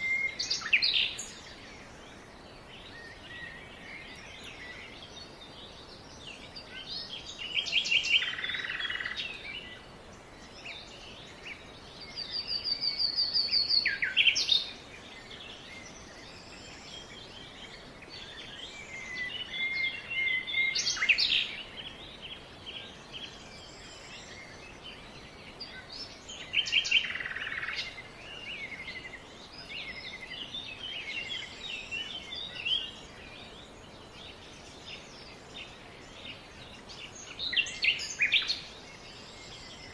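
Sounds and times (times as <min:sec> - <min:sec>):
songbirds singing and calling: 0:00.0 - 0:39.9
steady background hiss: 0:00.0 - 0:39.9.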